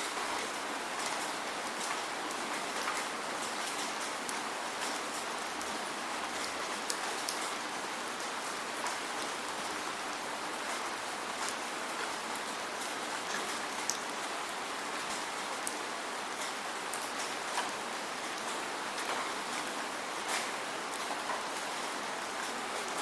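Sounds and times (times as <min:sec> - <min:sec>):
steady rain hiss: 0:00.0 - 0:23.0
raindrops ticking close by: 0:00.1 - 0:23.0.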